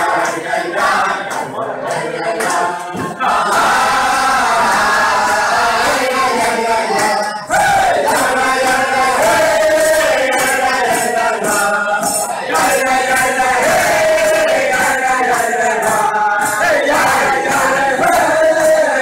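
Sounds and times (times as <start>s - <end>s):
crowd of men singing: 0.0s - 19.0s.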